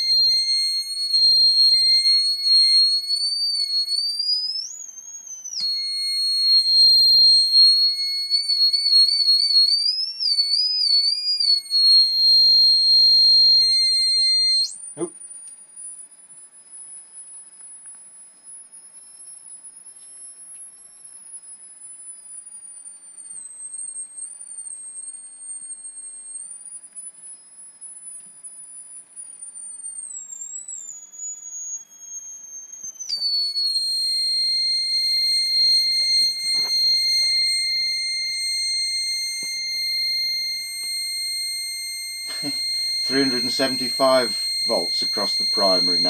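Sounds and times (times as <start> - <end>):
high-pitched electronic whine: 0.0 - 15.2, 15.8 - 46.0.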